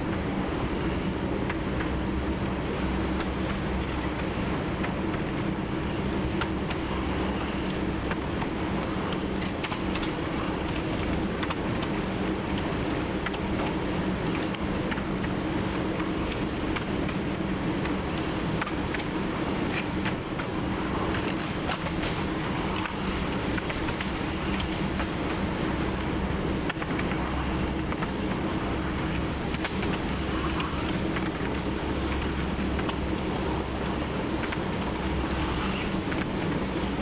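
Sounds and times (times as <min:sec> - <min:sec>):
diesel locomotive engine drone: 0:00.0 - 0:37.0
wheels clicking on track: 0:00.0 - 0:37.0.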